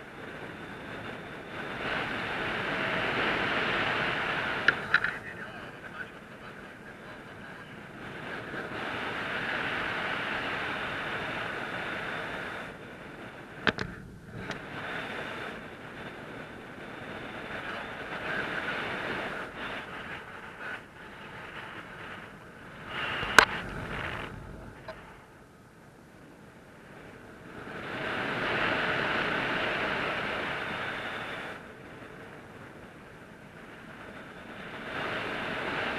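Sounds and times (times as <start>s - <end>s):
rushing wind: 0.0s - 35.9s.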